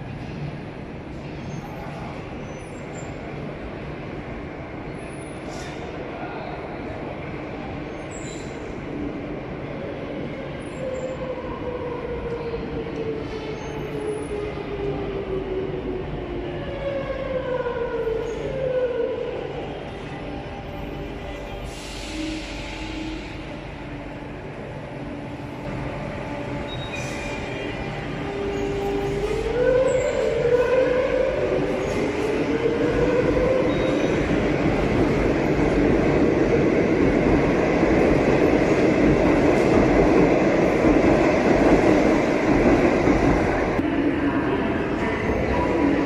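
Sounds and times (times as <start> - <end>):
train rumbling on track: 0.0 - 46.0.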